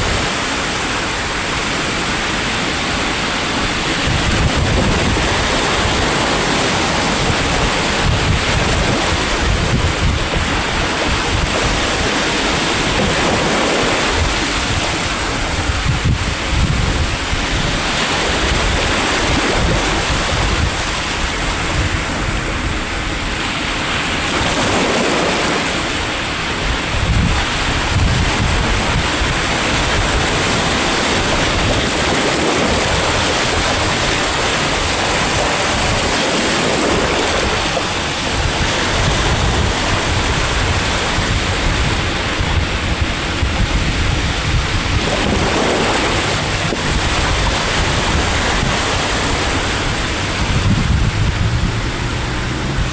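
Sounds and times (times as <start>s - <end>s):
sea waves breaking on shore: 0.0s - 52.9s
wind buffeting microphone: 0.0s - 52.9s.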